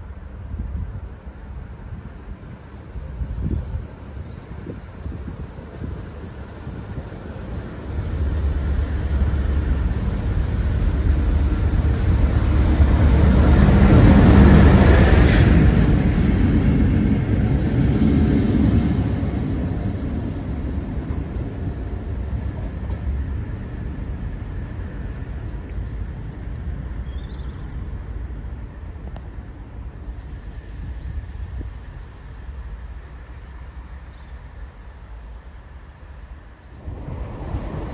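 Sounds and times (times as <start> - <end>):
train passing at speed: 0.0 - 37.9.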